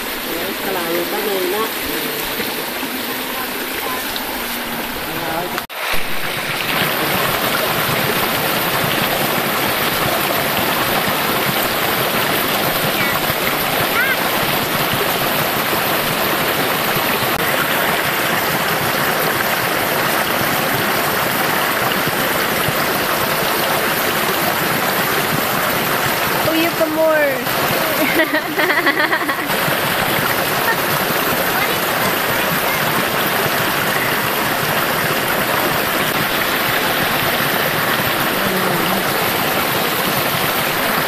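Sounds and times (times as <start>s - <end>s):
creek flowing: 0.0s - 41.0s.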